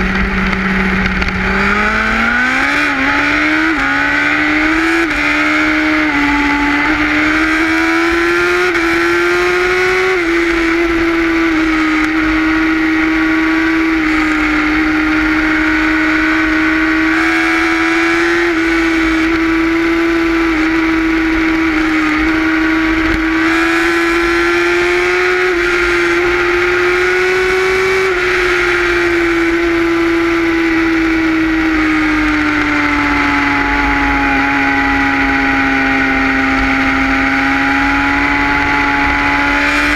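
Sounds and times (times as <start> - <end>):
motorcycle engine cruising: 0.0 - 39.9
wind rumble on microphone: 0.0 - 39.9.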